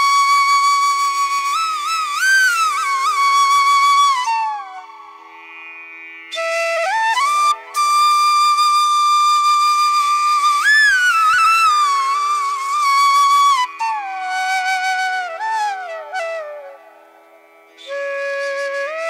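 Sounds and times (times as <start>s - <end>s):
flute holding sliding notes: 0.0s - 5.2s, 6.3s - 17.1s, 17.8s - 19.0s.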